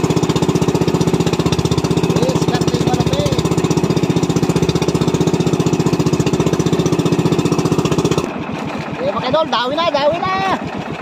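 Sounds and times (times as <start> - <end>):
boat motor chugging: 0.0 - 11.0.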